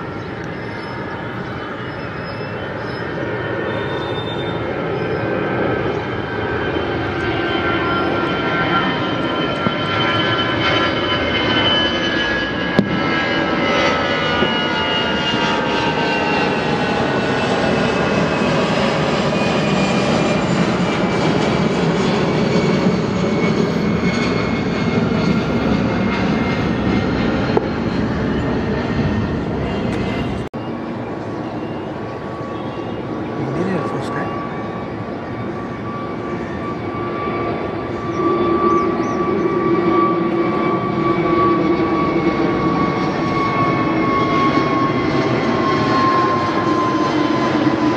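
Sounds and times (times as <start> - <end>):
jet airliner roaring at takeoff: 0.0 - 47.9.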